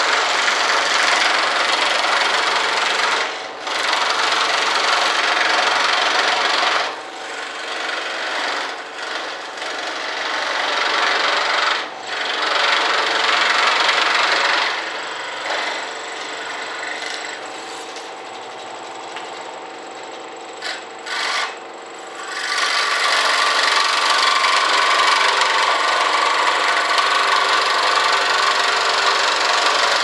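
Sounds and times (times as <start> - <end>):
bench sander grinding wood: 0.0 - 30.0.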